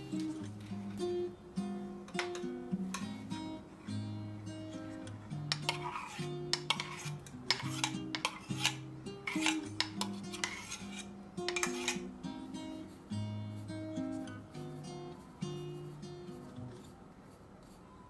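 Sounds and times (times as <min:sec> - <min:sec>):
acoustic guitar music: 0:00.0 - 0:17.1.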